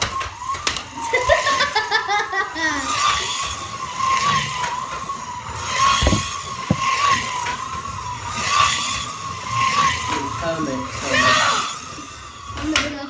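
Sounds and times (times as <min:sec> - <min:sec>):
slot car motors whining: 0:00.0 - 0:13.0.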